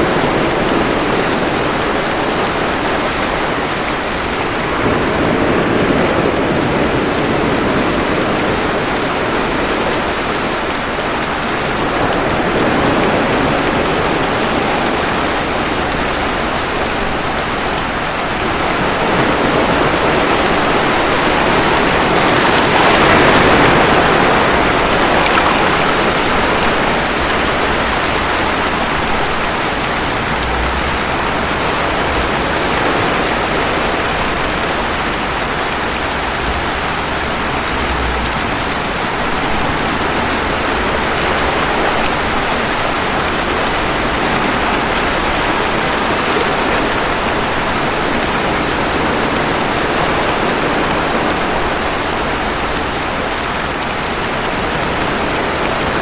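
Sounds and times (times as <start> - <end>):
ocean waves: 0.0 - 56.0
steady rain: 0.0 - 56.0.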